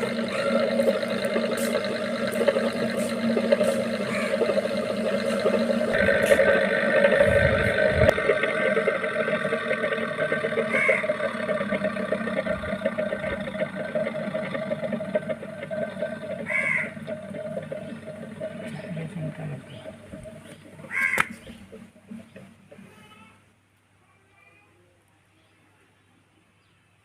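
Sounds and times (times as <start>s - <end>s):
steady droning: 0.0s - 22.7s.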